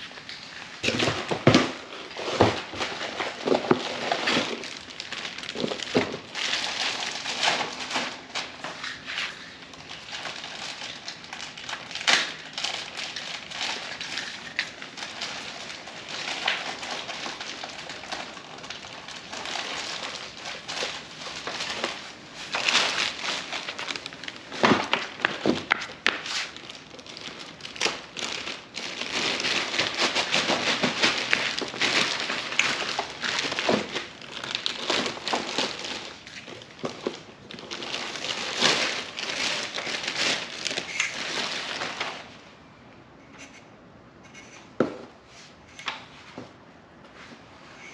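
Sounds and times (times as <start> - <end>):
plastic wrap and cardboard crinkling: 0.0 - 42.7.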